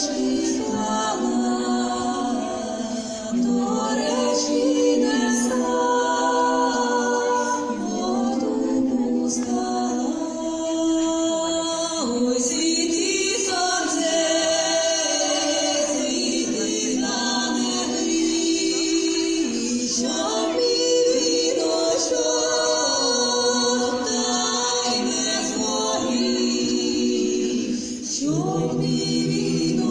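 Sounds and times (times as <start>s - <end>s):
choir singing: 0.0s - 29.9s.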